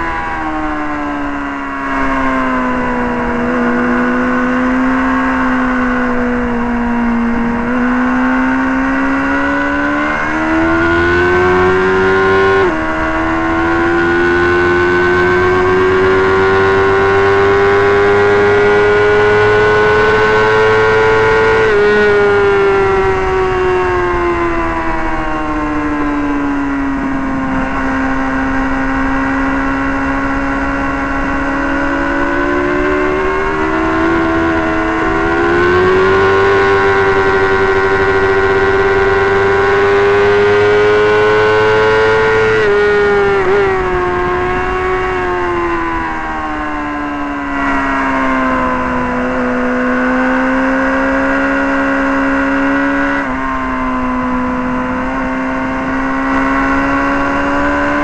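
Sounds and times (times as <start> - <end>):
motorcycle engine at racing speed: 0.0 - 58.0.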